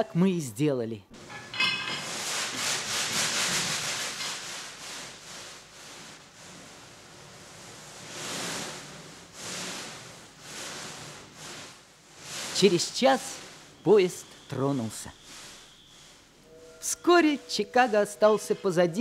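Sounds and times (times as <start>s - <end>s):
rustling and scraping: 1.2s - 19.0s.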